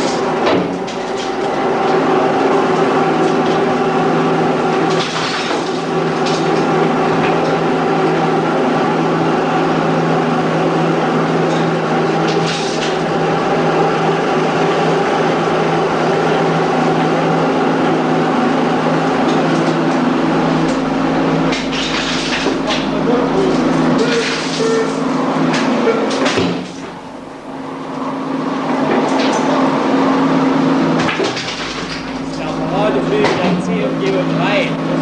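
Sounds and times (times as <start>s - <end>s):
mine machinery hum: 0.0s - 35.0s.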